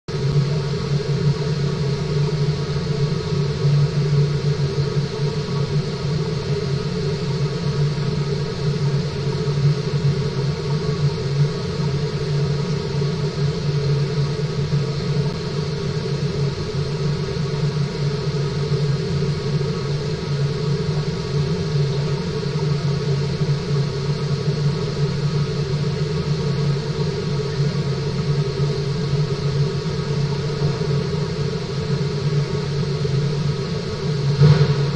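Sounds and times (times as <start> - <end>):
underwater machine hum: 0.1 - 34.9.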